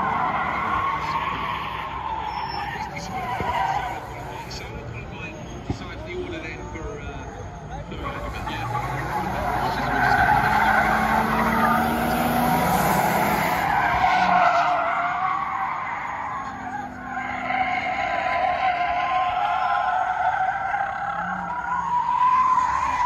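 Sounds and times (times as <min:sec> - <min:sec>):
car engines revving: 0:00.0 - 0:23.0
car tyres squealing: 0:00.0 - 0:23.0.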